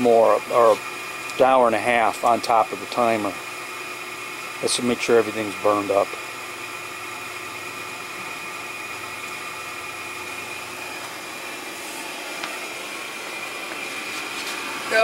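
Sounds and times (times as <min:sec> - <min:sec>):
blower fan running: 0:00.0 - 0:15.0.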